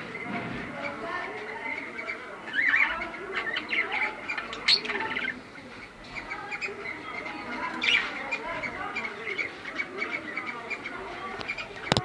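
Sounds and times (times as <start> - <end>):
cockatiels chirping and squawking: 0.0 - 12.0.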